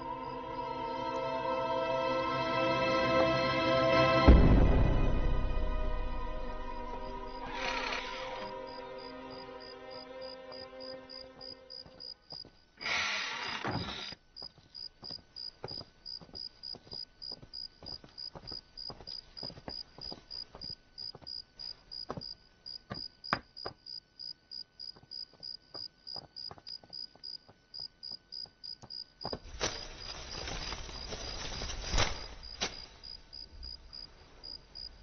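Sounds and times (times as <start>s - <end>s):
crickets chirping: 0.0s - 2.4s, 4.6s - 35.0s.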